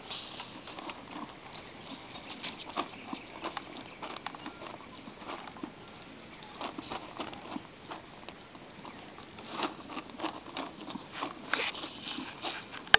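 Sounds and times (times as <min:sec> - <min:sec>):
horse crunching feed: 0:00.0 - 0:12.9.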